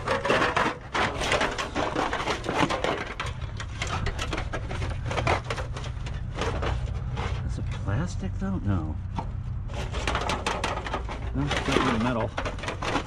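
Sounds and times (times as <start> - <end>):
sheet aluminum crackling and rattling: 0.0 - 7.7, 9.7 - 13.0.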